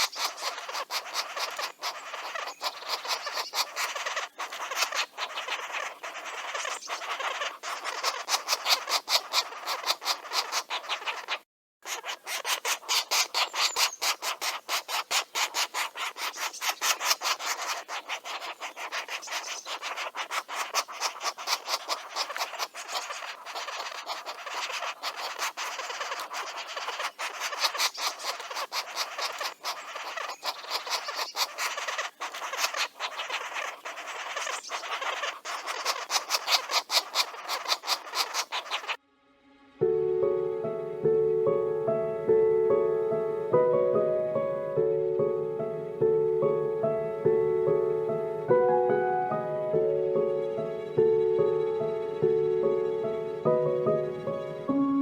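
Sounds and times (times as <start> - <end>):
woodpecker nestlings begging: 0.0 - 39.0, 45.2 - 55.0.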